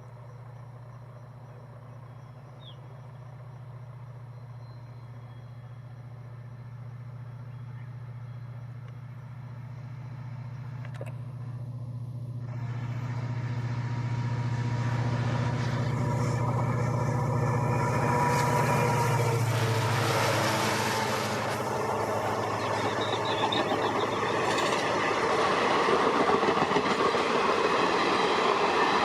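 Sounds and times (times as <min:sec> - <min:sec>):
diesel locomotive engine droning: 0:00.0 - 0:29.0
train rumble: 0:00.0 - 0:29.0.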